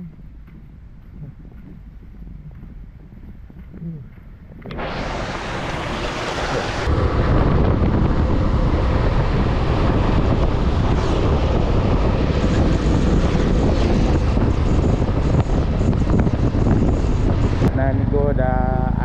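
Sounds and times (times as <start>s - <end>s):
moving vehicle rumble: 0.0s - 19.0s
wind buffeting microphone: 0.0s - 19.0s.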